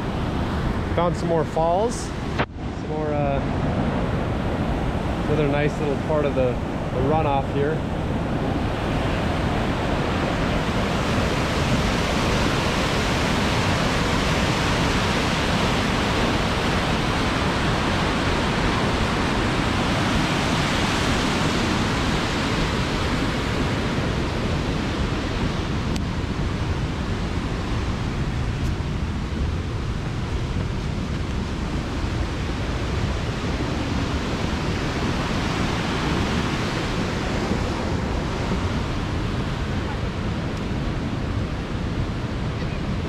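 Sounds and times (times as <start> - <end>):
whitewater rushing over rocks: 5.3 - 43.0.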